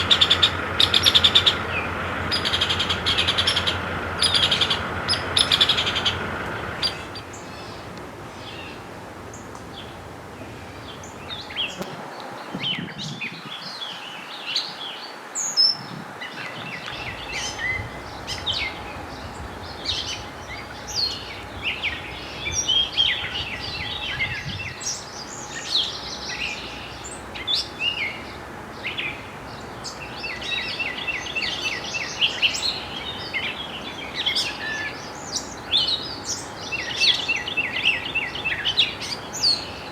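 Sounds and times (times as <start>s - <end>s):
outdoor background noise: 0.0s - 39.9s
songbirds singing and chirping: 0.0s - 39.9s.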